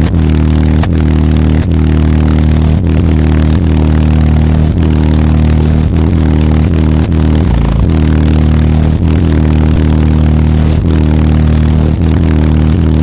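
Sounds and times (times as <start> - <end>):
loud bass-heavy music: 0.0 - 13.0.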